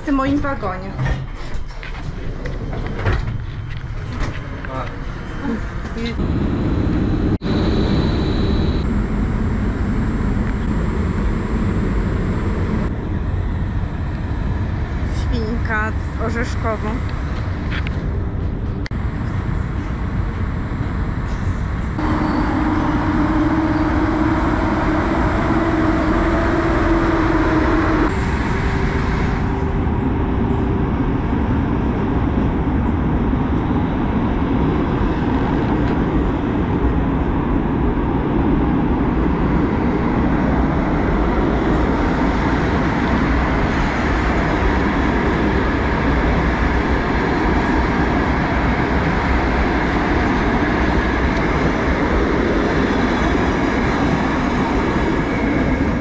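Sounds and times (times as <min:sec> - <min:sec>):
train wheels rumbling on track: 0:00.0 - 0:56.0
steady hum: 0:06.2 - 0:56.0.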